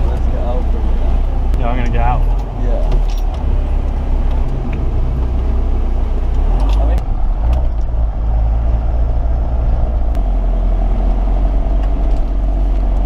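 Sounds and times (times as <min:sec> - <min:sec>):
car engine rumble in cabin: 0:00.0 - 0:13.0.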